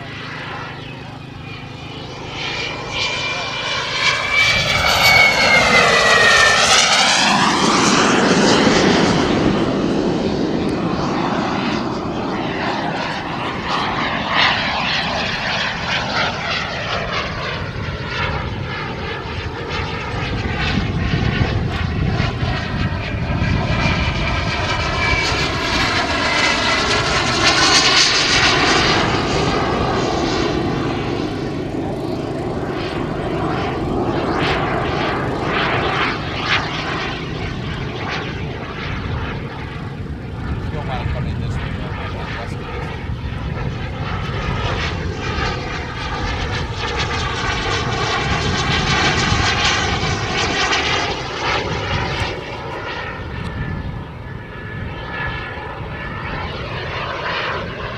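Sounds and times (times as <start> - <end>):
jet rush: 0.0 - 54.9
model jet engine whine: 0.0 - 57.9.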